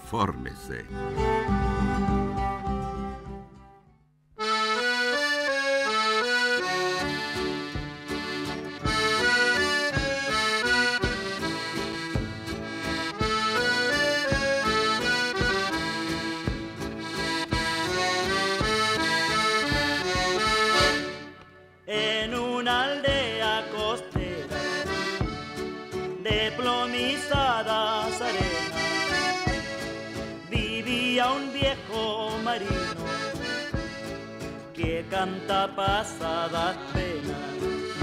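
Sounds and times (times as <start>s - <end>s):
accordion playing folk tune: 0.0s - 38.0s
steady beat: 6.1s - 21.3s, 22.7s - 38.0s.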